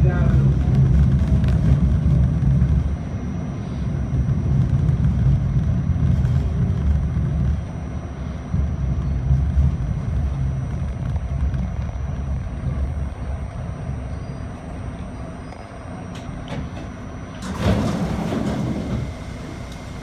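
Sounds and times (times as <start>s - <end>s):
subway car wheels rumbling: 0.0s - 20.0s.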